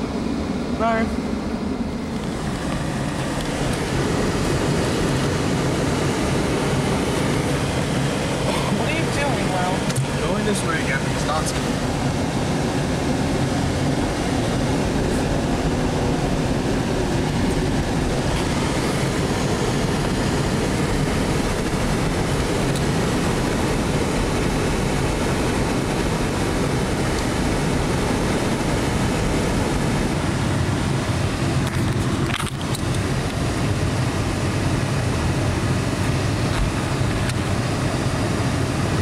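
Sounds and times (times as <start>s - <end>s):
truck engine: 0.0s - 39.0s
tyres on snowy road: 0.0s - 39.0s.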